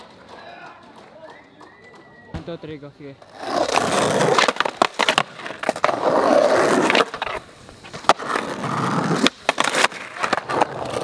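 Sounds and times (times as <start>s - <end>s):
skateboard clacking on ground: 0.0s - 11.0s
skateboard wheels rolling on concrete: 0.0s - 11.0s.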